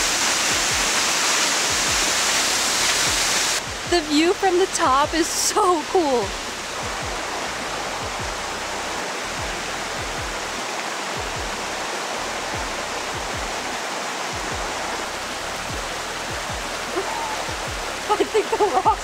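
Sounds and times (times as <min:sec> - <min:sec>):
waterfall rushing into pool: 0:00.0 - 0:19.0.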